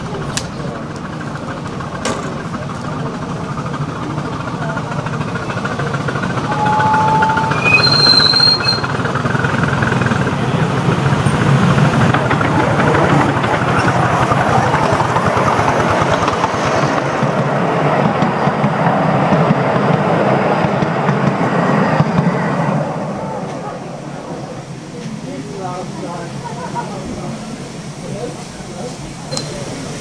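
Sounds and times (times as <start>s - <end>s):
miniature steam locomotive: 0.0s - 30.0s
train wheels rumbling on rails: 0.0s - 30.0s.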